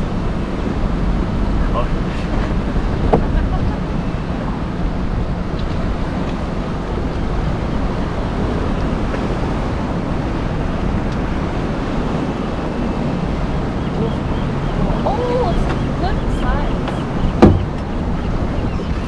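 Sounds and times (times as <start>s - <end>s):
water washing against boat hull: 0.0s - 19.0s
wind buffeting microphone: 0.0s - 19.0s.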